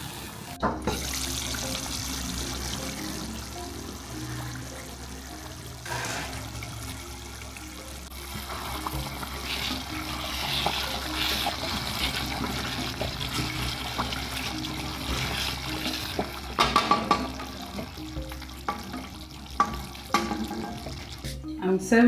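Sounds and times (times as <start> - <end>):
background music: 0.0 - 22.0
noisy hiss: 0.0 - 22.0.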